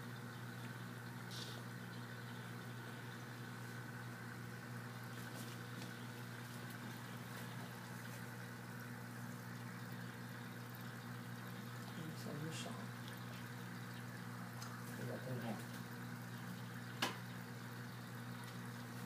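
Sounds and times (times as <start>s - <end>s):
aquarium pump humming: 0.0s - 19.0s.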